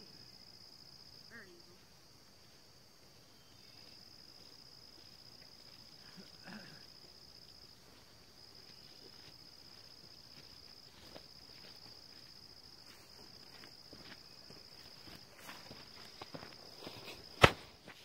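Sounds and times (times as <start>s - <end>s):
insects calling: 0.0s - 18.0s.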